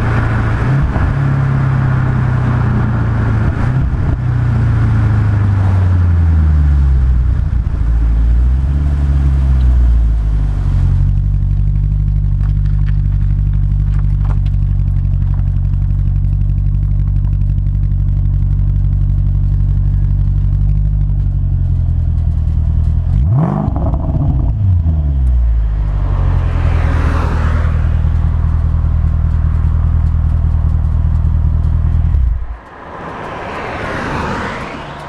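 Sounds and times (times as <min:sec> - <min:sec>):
engine revving: 0:00.0 - 0:21.3, 0:22.2 - 0:35.0
car engine idling: 0:00.0 - 0:35.0
passing cars: 0:00.0 - 0:35.0.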